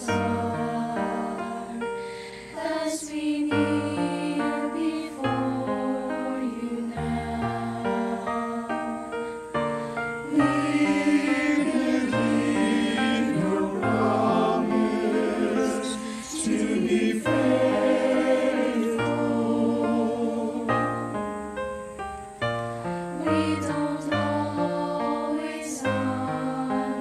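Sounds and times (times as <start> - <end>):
mixed choir singing: 0.0 - 21.3, 23.1 - 27.0.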